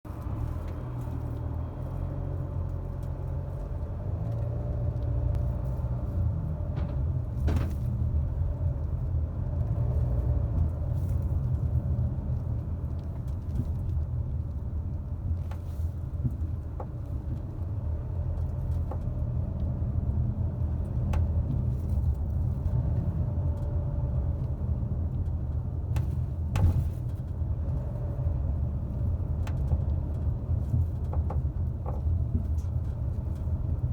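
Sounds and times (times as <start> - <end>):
car road rumble: 0.0 - 33.9.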